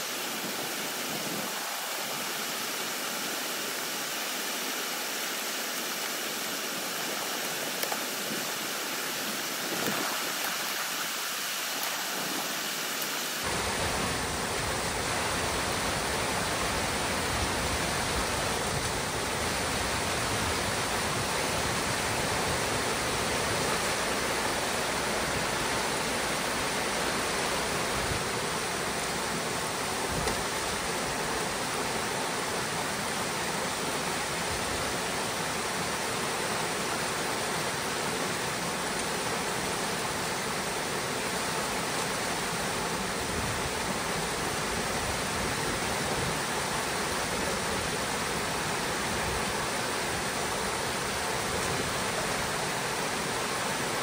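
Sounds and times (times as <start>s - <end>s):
water rushing through dam breach: 0.0s - 54.0s.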